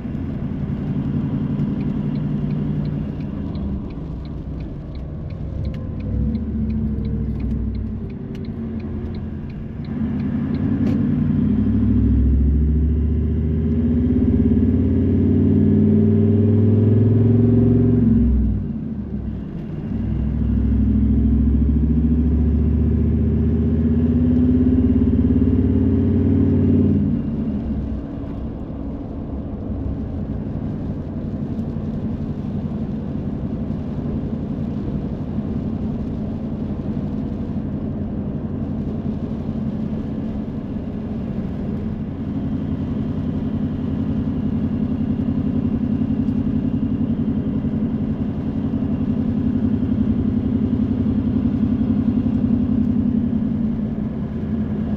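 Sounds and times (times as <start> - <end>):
road noise: 0.0 - 54.9.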